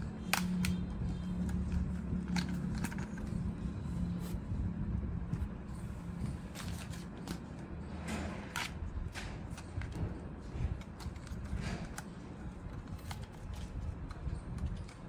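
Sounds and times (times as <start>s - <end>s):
steady low hum: 0.0s - 15.0s
plastic clicks and scrapes: 0.1s - 3.7s, 6.5s - 15.0s.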